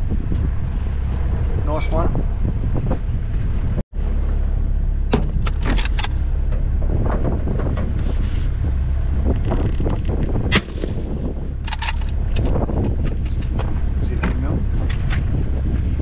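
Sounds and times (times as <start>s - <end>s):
vehicle engine rumbling: 0.0s - 16.0s
sharp knocks and rattles: 3.0s - 16.0s.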